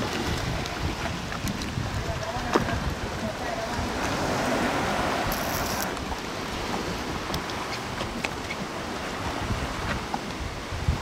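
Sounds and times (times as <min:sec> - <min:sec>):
small waves washing on rocky shore: 0:00.0 - 0:11.0
wind on the microphone: 0:00.0 - 0:11.0.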